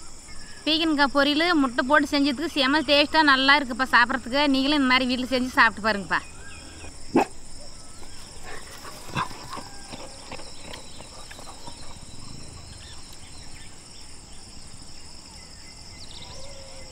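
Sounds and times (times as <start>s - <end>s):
insects trilling: 0.0s - 16.9s.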